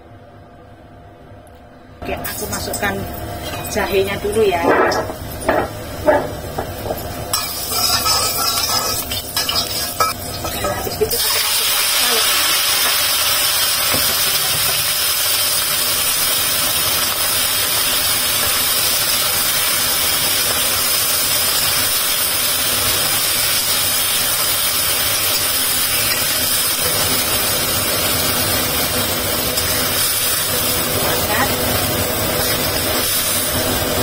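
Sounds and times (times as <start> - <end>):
mechanical hum: 0.0 - 34.0
scallops sizzling in a wok: 2.2 - 34.0.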